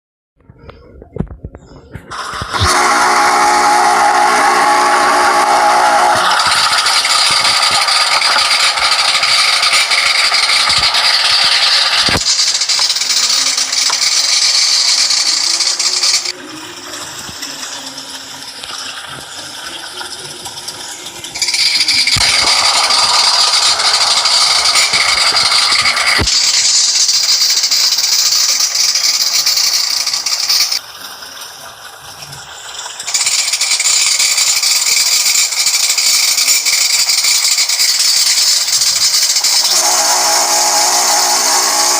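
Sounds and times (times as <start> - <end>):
washing machine rushing: 1.4 - 41.9.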